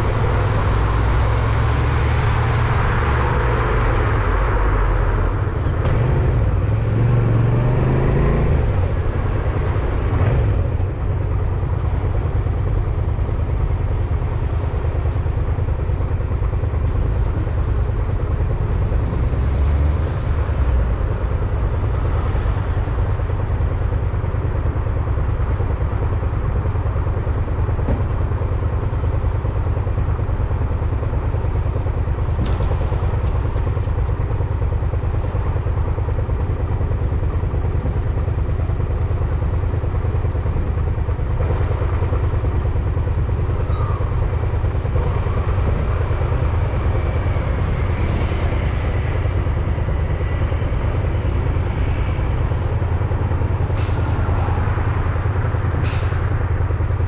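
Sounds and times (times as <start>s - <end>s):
wind and road noise on microphone: 0.0s - 57.0s.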